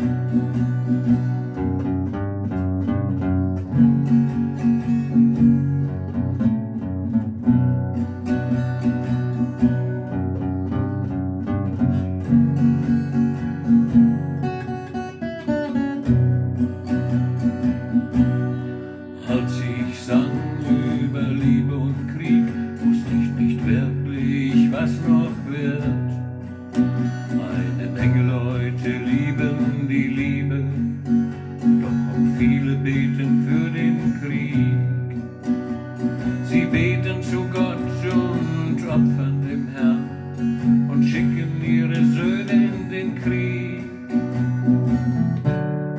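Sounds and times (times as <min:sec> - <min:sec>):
acoustic guitar strumming: 0:00.0 - 0:45.9.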